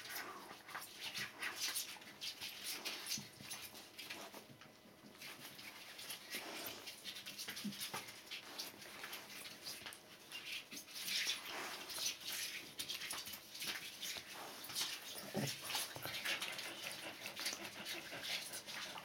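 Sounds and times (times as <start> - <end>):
puppies suckling: 0.0 - 19.0.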